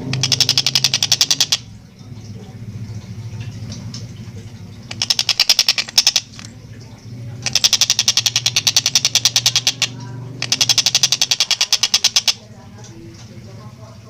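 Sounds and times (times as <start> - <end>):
kingfisher rattling chatter: 0.0 - 3.2, 4.4 - 14.0.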